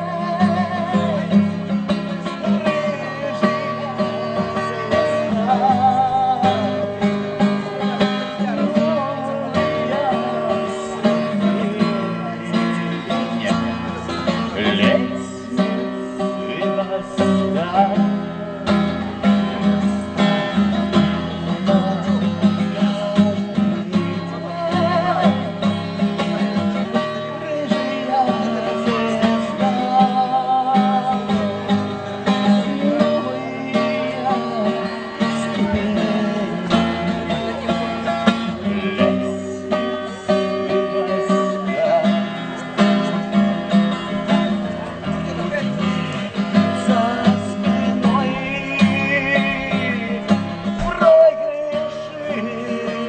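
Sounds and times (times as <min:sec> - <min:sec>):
acoustic guitar accompaniment: 0:00.0 - 0:53.0.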